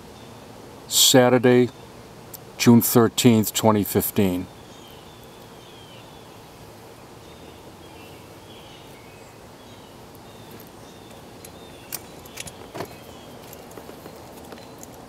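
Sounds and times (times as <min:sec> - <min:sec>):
distant songbirds chirping: 0:00.0 - 0:15.0
outdoor background hiss: 0:00.0 - 0:15.0.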